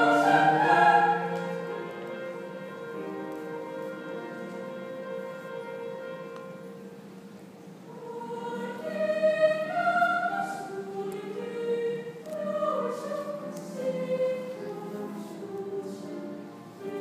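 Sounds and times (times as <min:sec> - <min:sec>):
choir singing: 0:00.0 - 0:06.3, 0:07.9 - 0:17.0.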